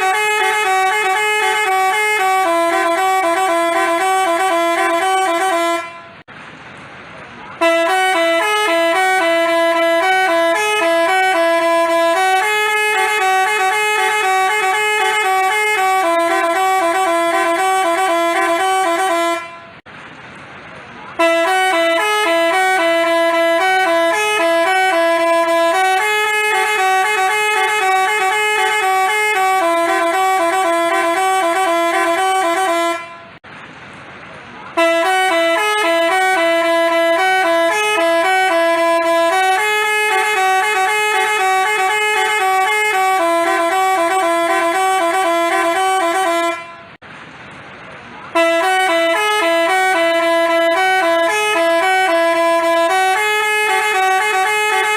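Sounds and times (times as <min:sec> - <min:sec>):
bus horn honking melody: 0:00.0 - 0:06.3, 0:07.5 - 0:19.9, 0:21.1 - 0:33.4, 0:34.7 - 0:47.0, 0:48.3 - 0:54.9.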